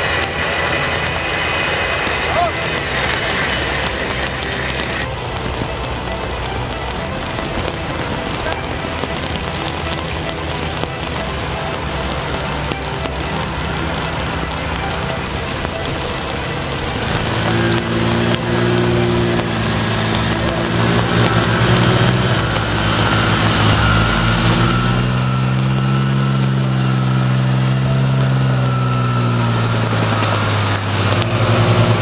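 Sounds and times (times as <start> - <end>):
engine working hard in mud: 0.0 - 32.0.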